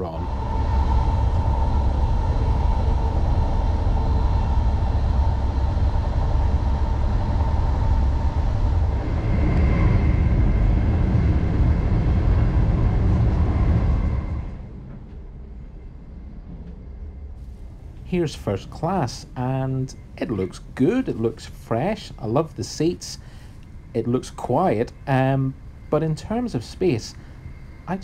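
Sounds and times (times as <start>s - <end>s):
faint electric whine: 0.0s - 28.0s
train wheels rumbling on track: 0.0s - 28.0s.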